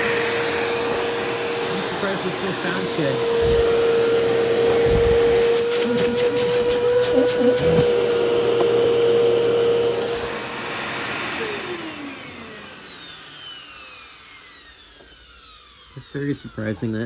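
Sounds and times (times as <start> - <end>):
vacuum cleaner motor running: 0.0 - 17.0.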